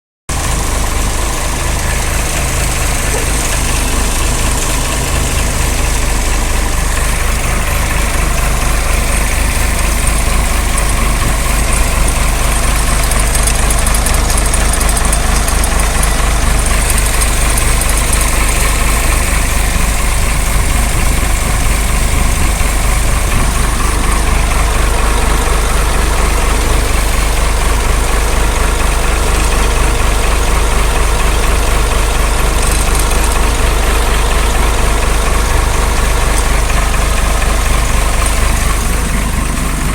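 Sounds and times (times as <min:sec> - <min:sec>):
vehicle engine idling: 0:00.3 - 0:39.9.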